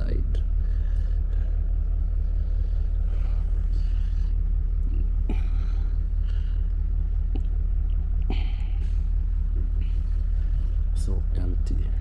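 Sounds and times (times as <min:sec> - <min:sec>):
train engine idling: 0:00.0 - 0:12.0.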